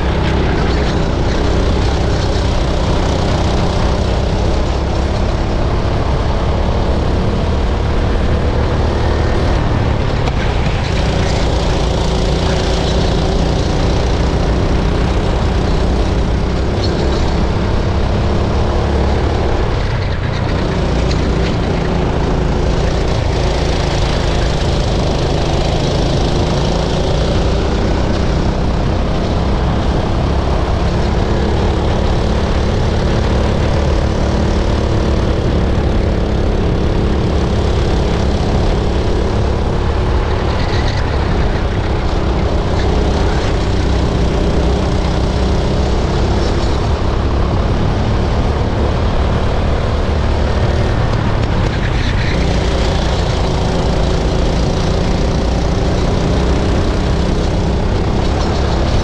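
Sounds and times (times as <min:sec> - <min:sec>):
racing kart engine running hard: 0:00.0 - 0:59.0.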